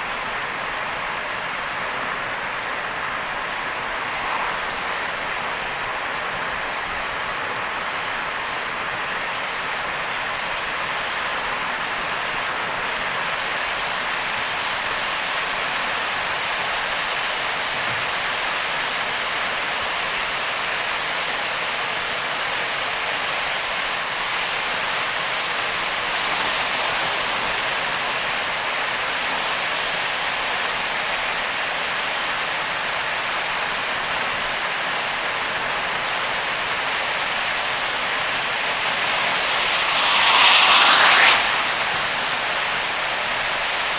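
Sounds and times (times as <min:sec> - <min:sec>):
heavy rain and road spray hiss: 0:00.0 - 0:43.9.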